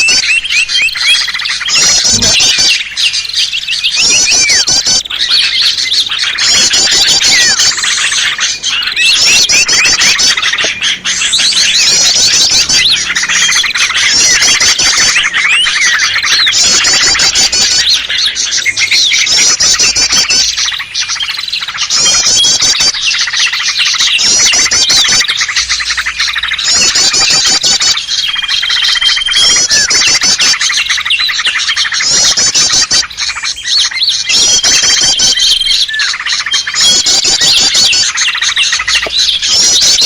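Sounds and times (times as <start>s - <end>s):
bird whistle: 0.0s - 40.0s
songbirds chirping: 0.0s - 40.0s.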